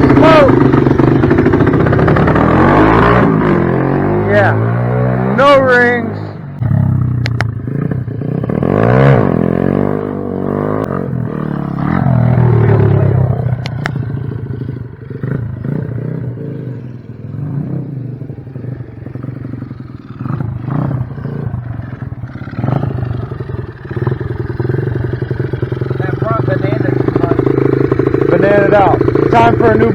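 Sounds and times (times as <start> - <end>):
motorbike engine revving: 0.0 - 29.9.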